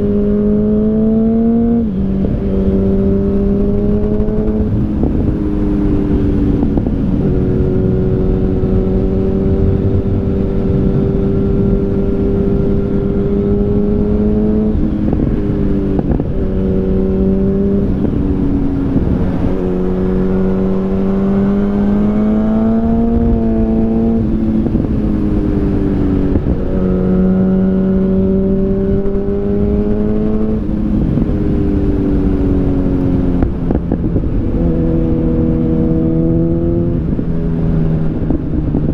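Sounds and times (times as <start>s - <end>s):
motorcycle engine changing gears: 0.0s - 38.9s
wind rushing: 1.5s - 38.9s.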